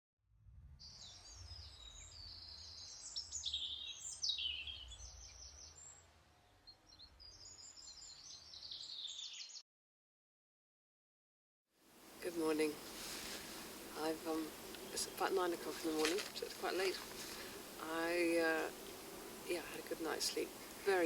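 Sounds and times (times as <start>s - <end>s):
small birds singing and chirping: 0.8s - 9.6s, 12.1s - 21.0s.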